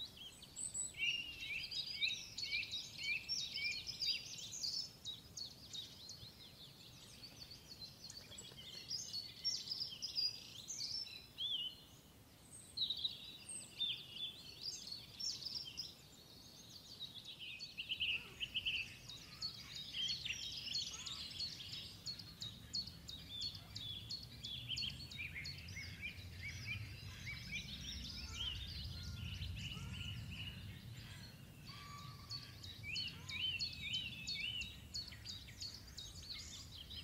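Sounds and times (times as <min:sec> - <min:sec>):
songbirds chirping and singing: 0:00.0 - 0:37.0.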